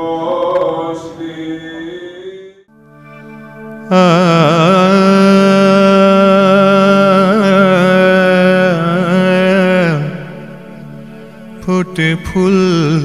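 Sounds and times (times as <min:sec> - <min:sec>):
held chant-like note: 0:00.0 - 0:13.0.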